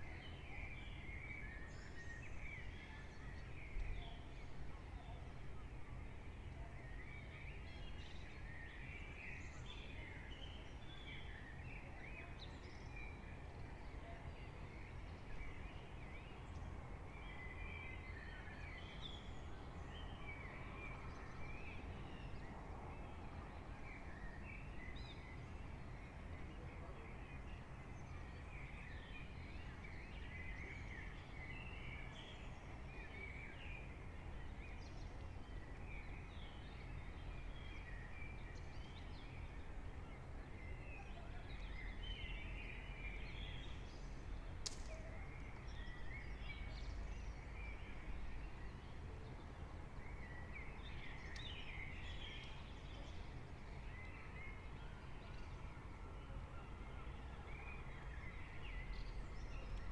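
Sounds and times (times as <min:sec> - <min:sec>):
low rumble of town noise: 0:00.0 - 0:59.9.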